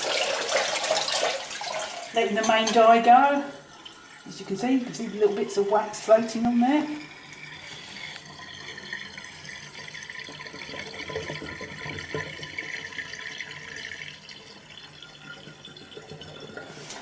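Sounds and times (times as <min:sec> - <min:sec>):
water draining down sink: 0:00.0 - 0:17.0.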